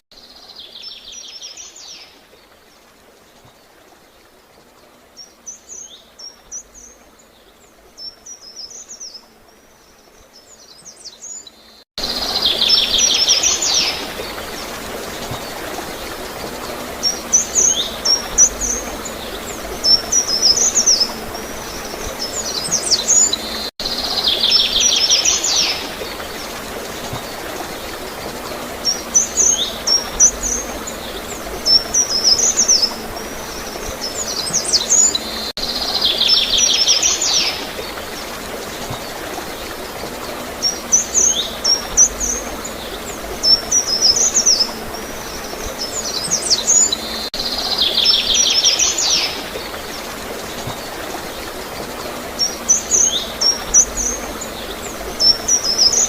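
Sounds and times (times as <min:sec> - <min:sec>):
gurgling flowing water: 0:00.2 - 0:56.0
songbirds chirping: 0:00.2 - 0:56.0.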